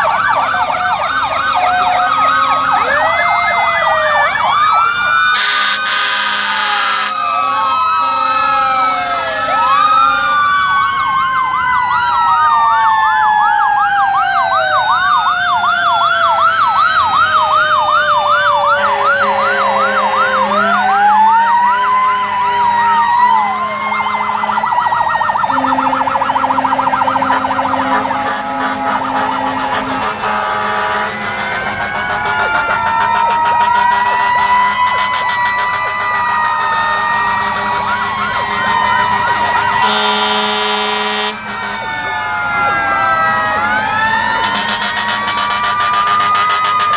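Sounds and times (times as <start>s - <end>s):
siren warble: 0.0s - 46.9s
siren yelp: 0.0s - 46.9s
wailing sirens: 0.0s - 46.9s.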